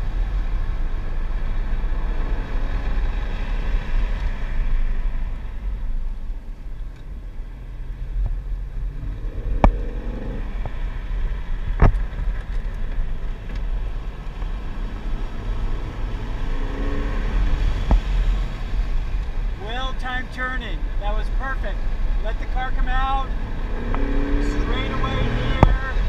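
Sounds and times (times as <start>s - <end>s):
car engine running hard: 0.0s - 26.0s
road and wind noise: 0.0s - 26.0s.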